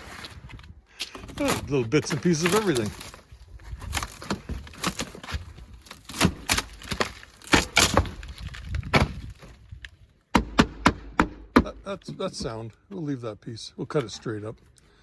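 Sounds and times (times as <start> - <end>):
plywood cracking and breaking: 0.0 - 12.8.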